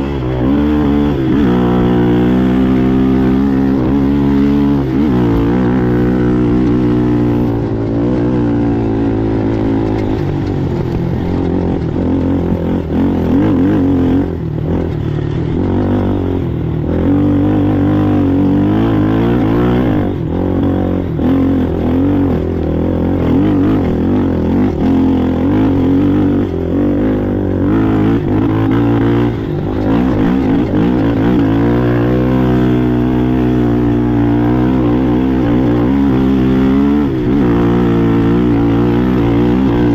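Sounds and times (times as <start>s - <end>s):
atv engine running hard: 0.0s - 39.9s.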